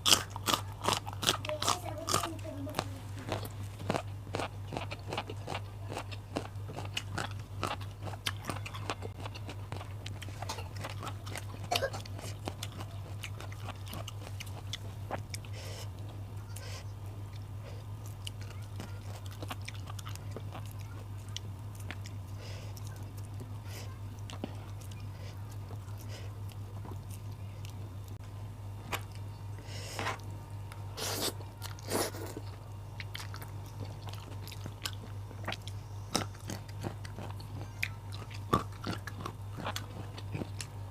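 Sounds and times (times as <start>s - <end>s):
chewing and crunching: 0.0s - 28.2s, 28.8s - 40.9s
steady low hum: 0.0s - 40.9s.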